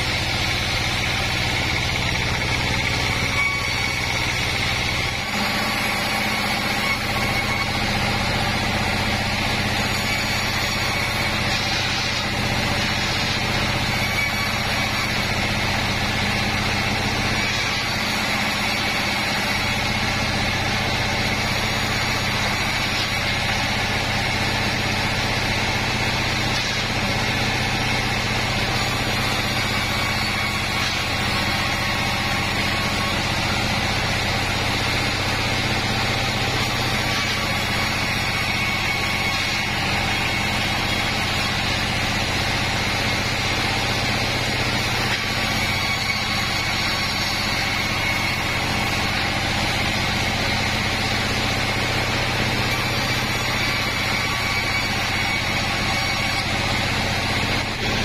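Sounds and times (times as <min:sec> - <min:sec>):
band saw cutting timber: 0:00.0 - 0:58.0.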